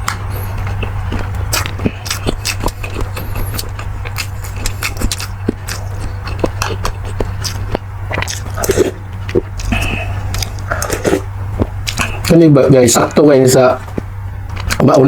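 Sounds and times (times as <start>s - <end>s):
chewing smacks: 0.0s - 12.4s, 13.8s - 14.9s
low hum: 0.0s - 15.0s.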